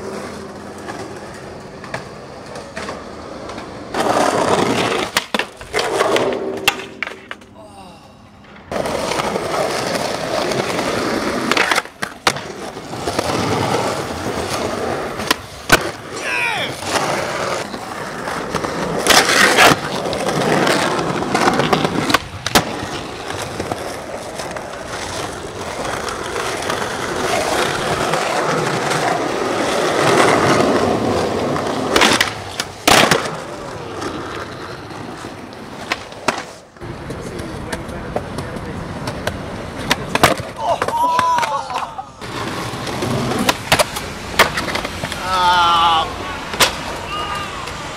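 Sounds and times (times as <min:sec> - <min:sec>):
skateboard popping and landing: 0:00.0 - 0:07.6, 0:08.4 - 0:45.3, 0:46.4 - 0:47.9
skateboard wheels rolling on concrete: 0:00.0 - 0:47.9.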